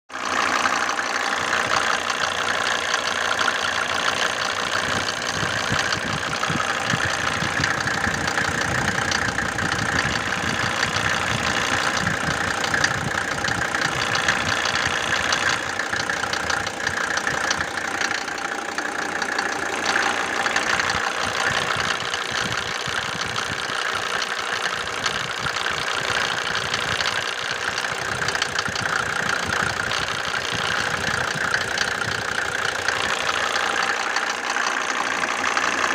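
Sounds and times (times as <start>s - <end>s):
diesel engine idling: 0.1s - 35.9s.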